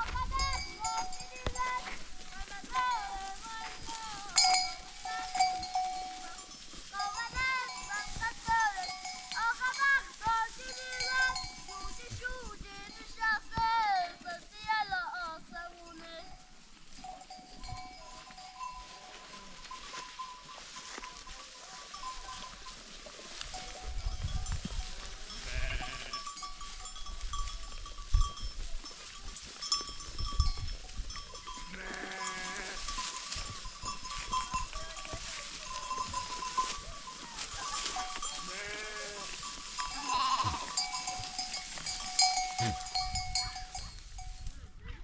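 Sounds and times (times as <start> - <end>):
livestock bells ringing: 0.0 - 14.6, 15.4 - 44.5
sheep and goats bleating: 0.0 - 45.0.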